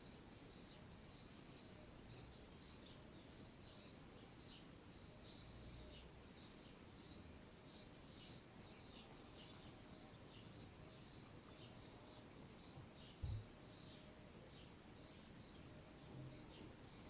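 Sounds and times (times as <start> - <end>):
faint small birds chirping: 0.0 - 17.0.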